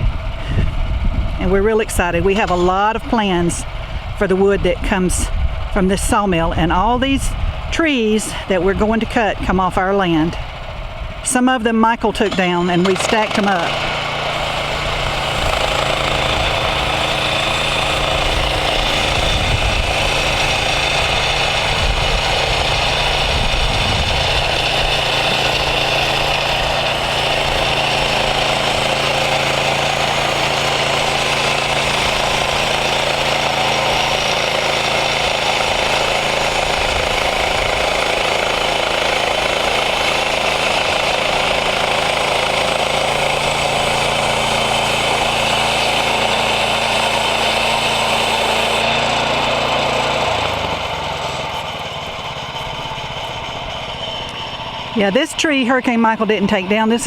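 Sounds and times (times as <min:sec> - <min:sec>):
sawmill gasoline engine running: 0:00.0 - 0:57.0.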